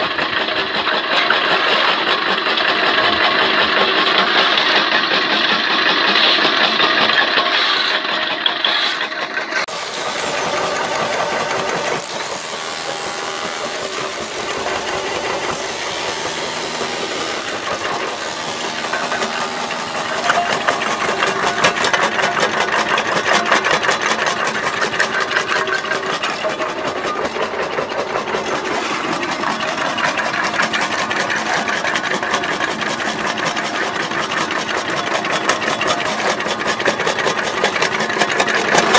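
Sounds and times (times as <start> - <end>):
jaw crusher rattling rubble: 0.0 - 38.9.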